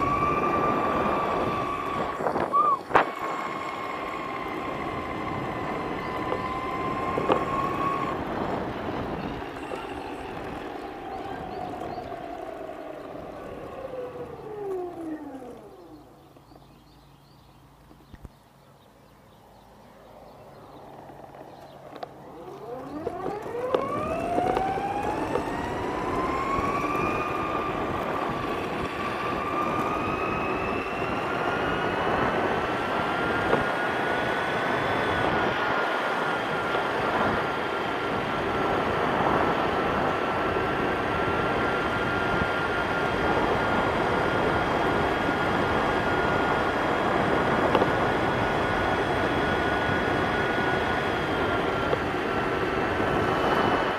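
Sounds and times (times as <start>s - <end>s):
electric motor whining: 0.0s - 16.5s, 21.0s - 53.9s
wheel and wind noise rushing: 0.0s - 53.9s.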